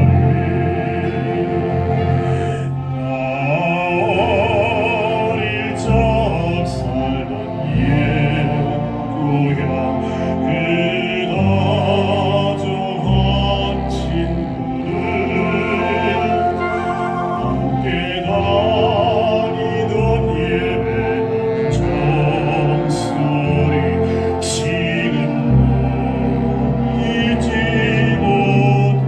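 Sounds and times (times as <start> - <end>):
baritone singing operatically: 0.0 - 29.0
orchestral accompaniment: 0.0 - 29.0.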